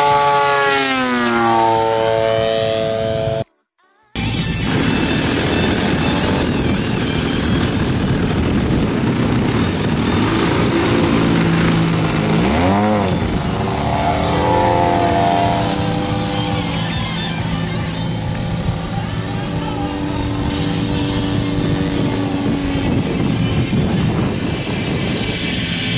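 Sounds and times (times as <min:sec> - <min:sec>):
model airplane engine and propeller: 0:04.2 - 0:25.9.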